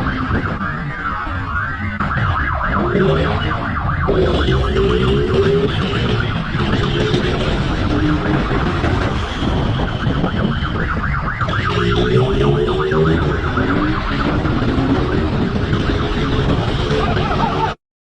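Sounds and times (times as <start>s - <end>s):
police siren wailing: 0.0s - 17.8s
vehicle engine and road noise: 0.0s - 17.8s.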